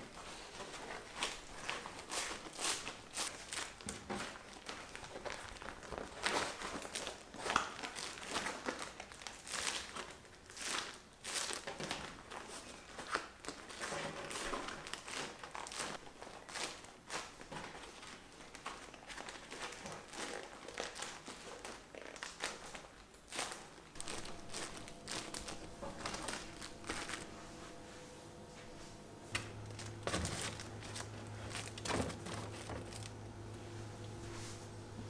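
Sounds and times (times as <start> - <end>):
crinkling and rustling: 0.0 - 34.7.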